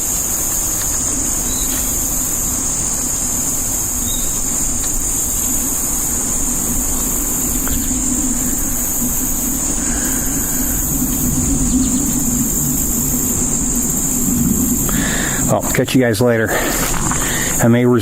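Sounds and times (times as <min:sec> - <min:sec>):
continuous low rumble: 0:00.0 - 0:18.0
crickets chirping: 0:00.0 - 0:18.0.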